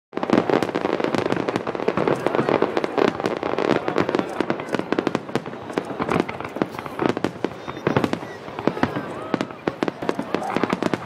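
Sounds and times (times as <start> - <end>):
firework shells bursting: 0.2 - 11.0.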